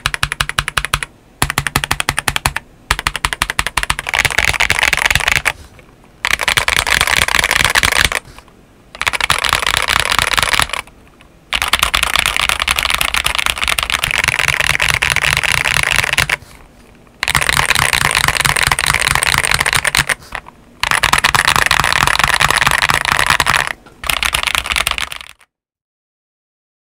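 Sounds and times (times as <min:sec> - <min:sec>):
mechanical keyboard typing: 0:00.0 - 0:05.6, 0:06.2 - 0:08.3, 0:09.0 - 0:10.9, 0:11.5 - 0:16.4, 0:17.2 - 0:25.5.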